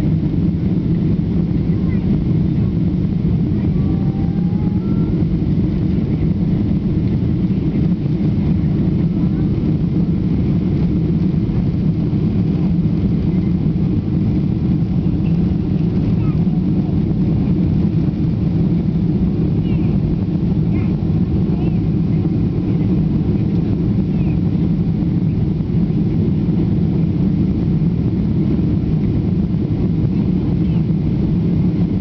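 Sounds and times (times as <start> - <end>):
jet airliner taking off: 0.0 - 32.0.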